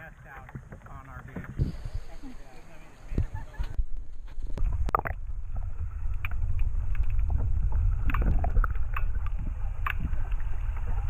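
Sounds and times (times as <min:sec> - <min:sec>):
muffled underwater rumble: 0:00.0 - 0:11.0.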